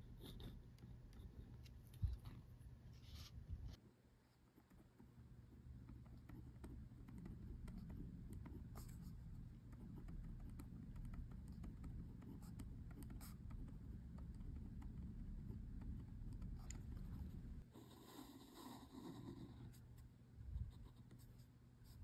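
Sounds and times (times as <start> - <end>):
faint small ticks and scratches: 0.1 - 22.0.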